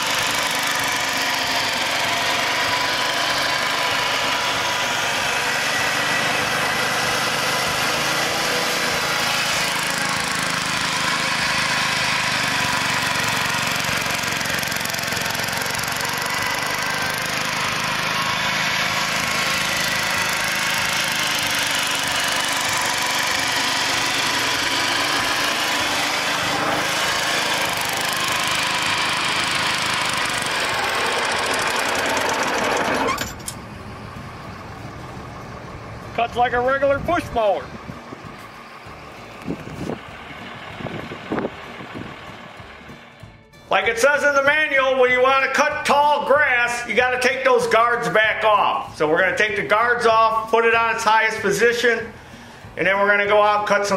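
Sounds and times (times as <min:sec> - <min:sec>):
mower engine running: 0:00.0 - 0:53.9.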